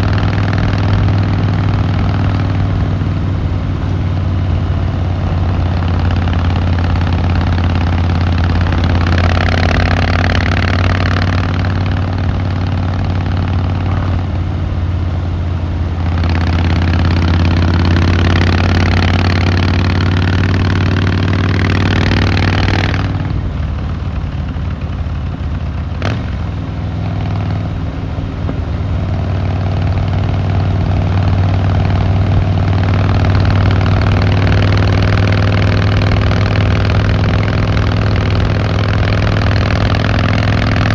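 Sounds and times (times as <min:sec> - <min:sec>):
motorcycle engine and exhaust: 0:00.0 - 0:40.9
wind and road rush: 0:00.0 - 0:40.9.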